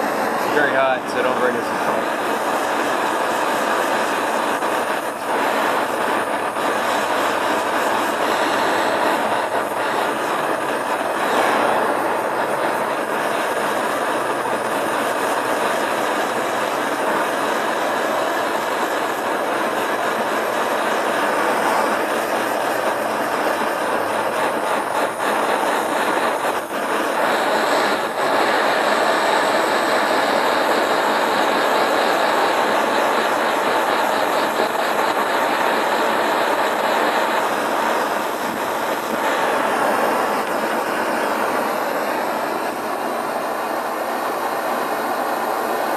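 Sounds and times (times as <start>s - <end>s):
propane torch hissing: 0.0s - 45.9s.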